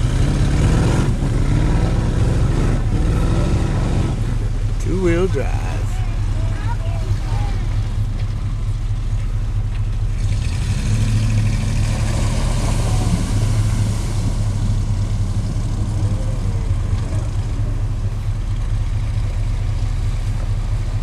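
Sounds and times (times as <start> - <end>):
truck engine running hard: 0.0 - 21.0.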